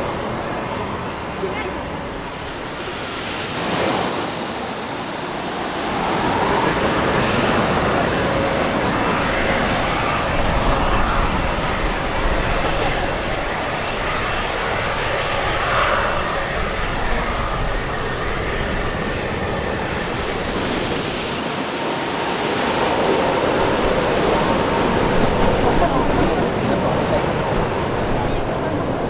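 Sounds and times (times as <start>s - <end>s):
jet engine rushing: 0.0s - 29.0s.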